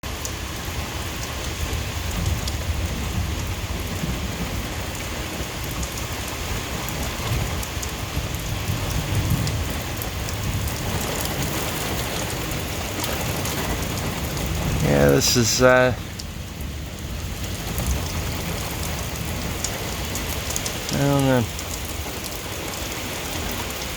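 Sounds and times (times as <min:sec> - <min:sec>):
heavy rain pouring: 0:00.0 - 0:23.9
low thunder rumble: 0:01.6 - 0:15.1, 0:15.9 - 0:23.9.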